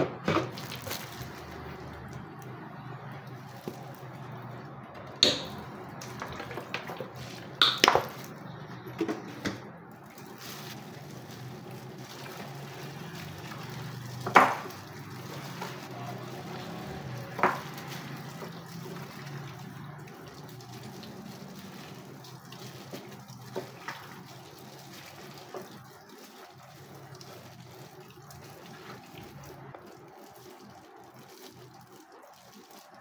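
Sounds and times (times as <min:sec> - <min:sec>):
wet squishing of marinade: 0:00.0 - 0:33.0.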